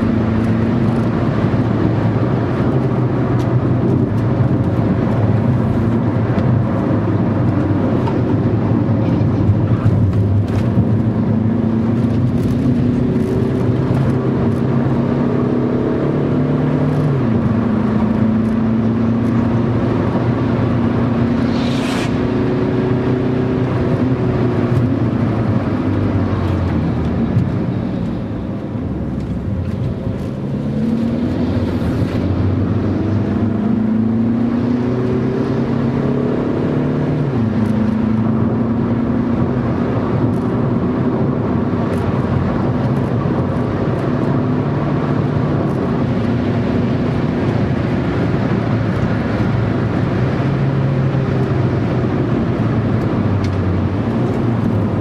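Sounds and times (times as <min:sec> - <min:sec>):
car engine accelerating: 0:00.0 - 0:55.0
road noise inside car: 0:00.0 - 0:55.0.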